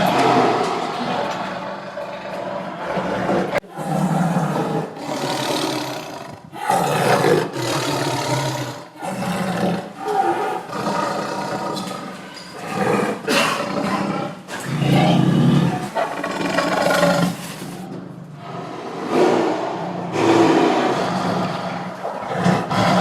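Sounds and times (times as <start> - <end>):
tiger roaring: 0.0 - 23.0.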